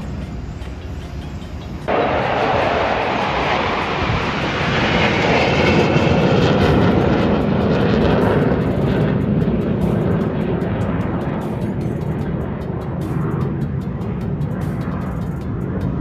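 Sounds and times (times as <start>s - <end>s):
jet passing overhead: 0.0s - 16.0s.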